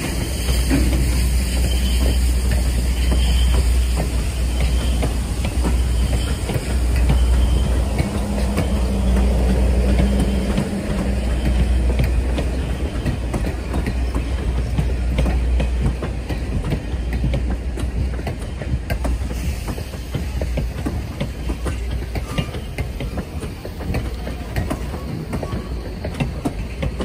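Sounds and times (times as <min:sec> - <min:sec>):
train rolling past: 0:00.0 - 0:27.0
wheels clicking over rail joints: 0:00.0 - 0:27.0.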